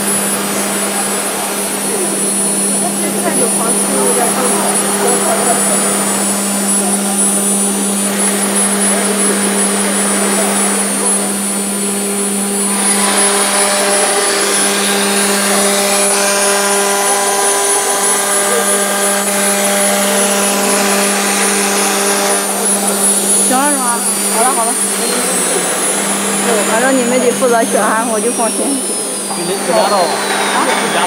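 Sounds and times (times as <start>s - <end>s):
router bit cutting wood: 0.0s - 31.0s
router spindle whining: 0.0s - 31.0s.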